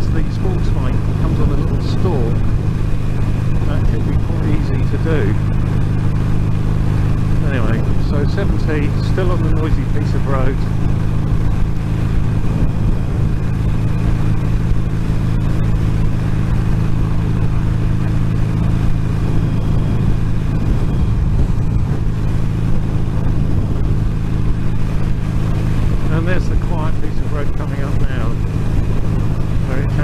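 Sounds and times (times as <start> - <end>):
motorcycle engine drone: 0.0 - 30.0
wind and road noise in helmet: 0.0 - 30.0.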